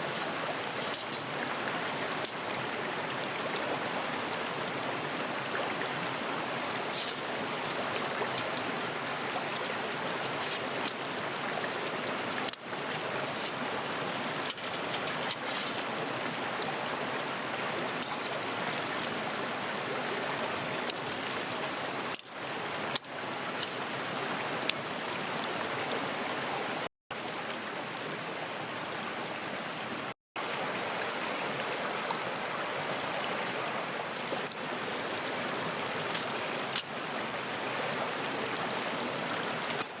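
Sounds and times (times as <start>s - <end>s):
river flowing: 0.0s - 40.0s.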